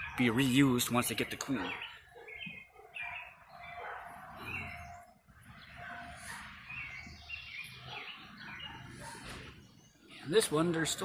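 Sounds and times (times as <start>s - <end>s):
small songbirds chirping: 0.0s - 11.0s.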